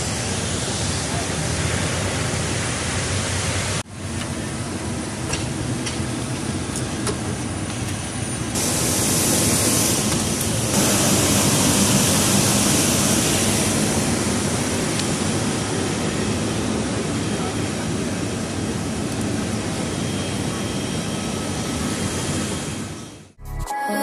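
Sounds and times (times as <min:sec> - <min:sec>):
jet aircraft roar and hiss: 0:00.0 - 0:23.4.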